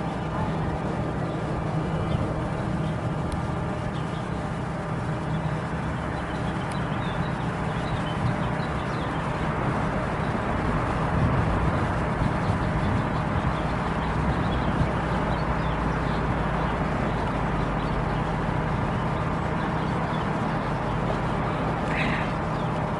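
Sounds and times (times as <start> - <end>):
vehicle rumble with low hum: 0.0 - 22.9.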